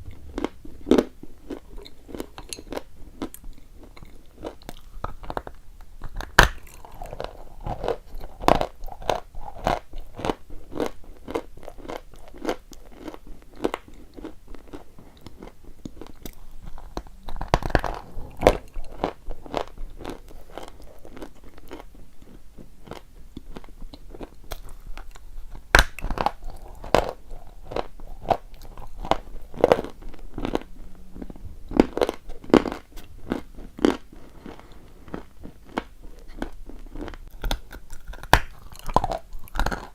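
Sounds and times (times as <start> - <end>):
chalk being bitten and chewed: 0.1 - 39.9.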